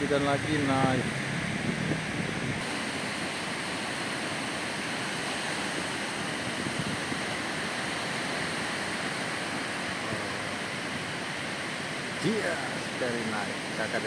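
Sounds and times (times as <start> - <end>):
ocean surf on beach: 0.0 - 14.0.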